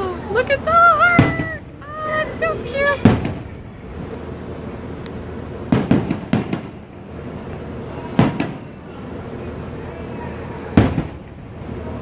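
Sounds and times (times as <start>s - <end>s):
fireworks bangs: 0.0s - 12.0s
steady outdoor hum: 0.0s - 12.0s.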